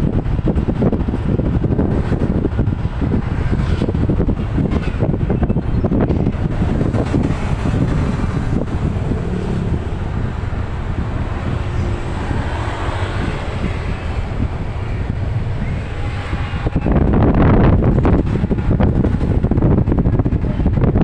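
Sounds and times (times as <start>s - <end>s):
road and engine rumble: 0.0s - 21.0s
wind noise on microphone: 0.0s - 21.0s.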